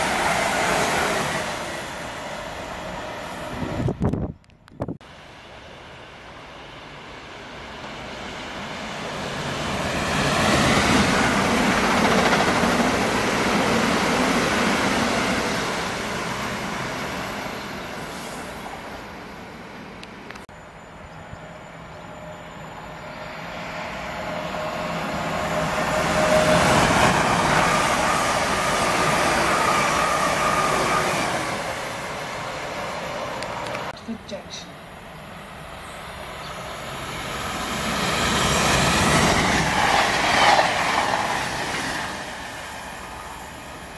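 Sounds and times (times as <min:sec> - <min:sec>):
train rushing past: 0:00.0 - 0:04.0, 0:05.0 - 0:20.0, 0:20.6 - 0:43.9
train wheels on rails: 0:05.0 - 0:20.5, 0:21.2 - 0:34.0, 0:35.4 - 0:43.9.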